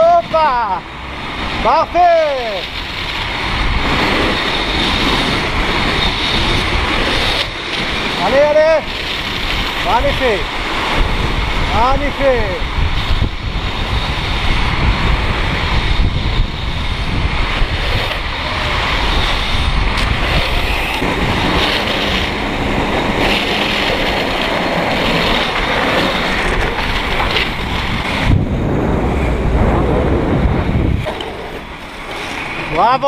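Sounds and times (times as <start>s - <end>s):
skate wheels rolling on asphalt: 0.0s - 33.0s
wind rushing over microphone: 0.0s - 33.0s.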